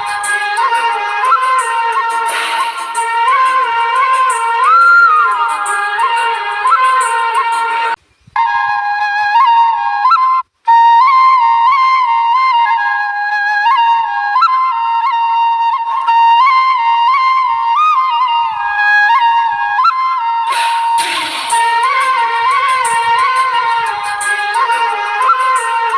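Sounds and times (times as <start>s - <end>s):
solo flute melody: 0.0s - 25.9s.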